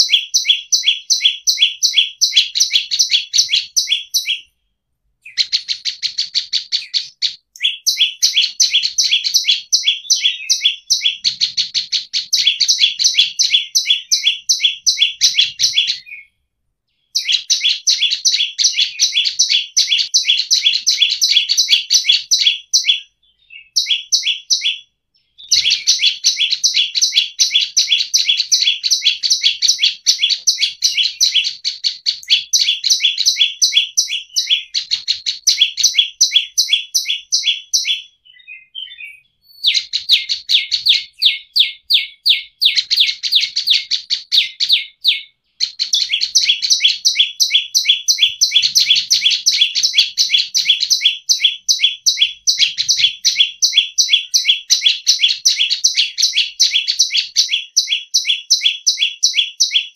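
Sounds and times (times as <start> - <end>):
bird singing sharp chipping notes: 5.2 - 16.3, 16.9 - 59.8.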